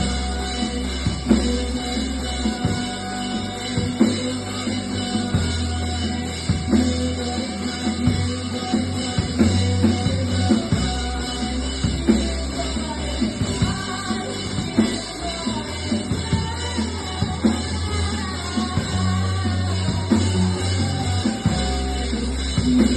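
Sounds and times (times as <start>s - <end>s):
drum kit beat: 0.0s - 22.9s
live rock band playing: 0.0s - 22.9s
low bass notes: 0.0s - 22.9s.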